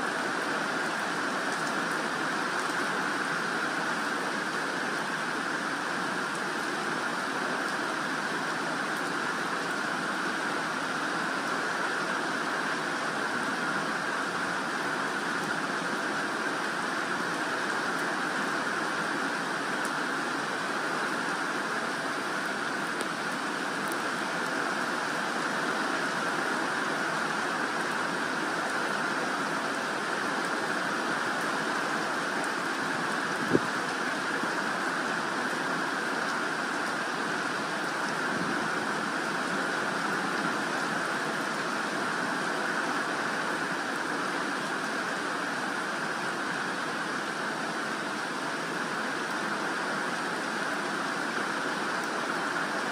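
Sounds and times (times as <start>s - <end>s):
rain on leaves and grass: 0.0s - 52.9s.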